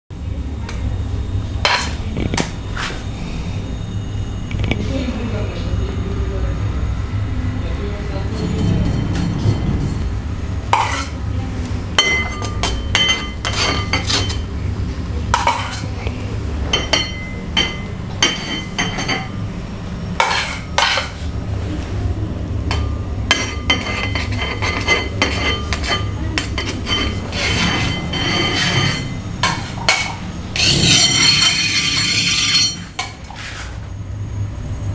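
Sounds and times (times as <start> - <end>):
steady low hum: 0.1 - 34.9.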